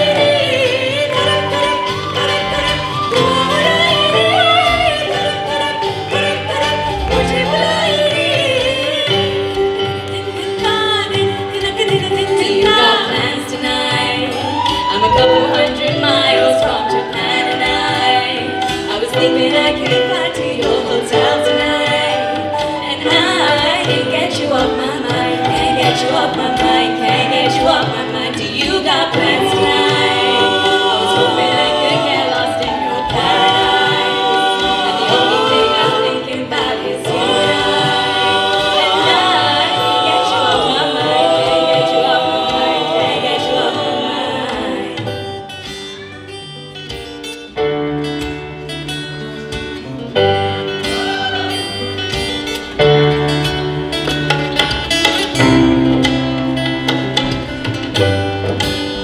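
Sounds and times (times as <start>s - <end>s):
singing with instruments: 0.0s - 59.0s.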